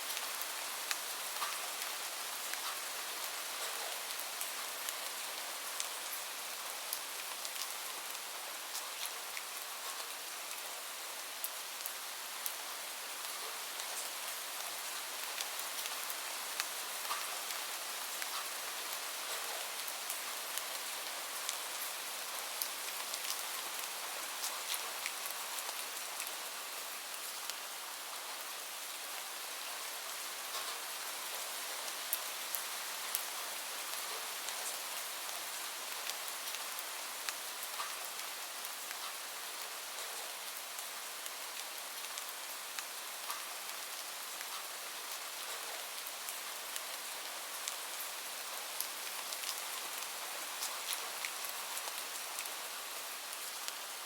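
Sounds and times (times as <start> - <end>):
raindrops hitting a surface: 0.0 - 54.0
steady rain falling: 0.0 - 54.0.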